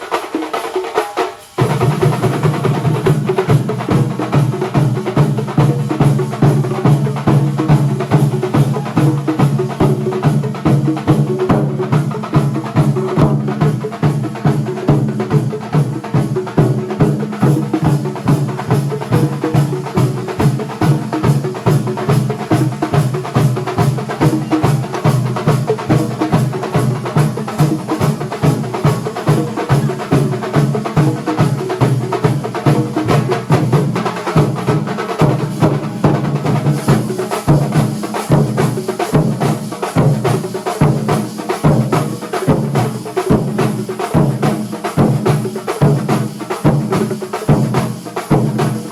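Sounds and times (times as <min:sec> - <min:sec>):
drum ensemble playing fast rhythm: 0:00.0 - 0:48.9.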